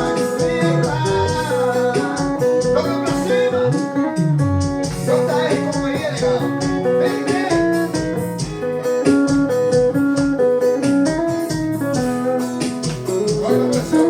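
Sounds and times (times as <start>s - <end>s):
guitar-led melody: 0.0s - 14.0s
steady beat and bass line: 0.0s - 14.0s.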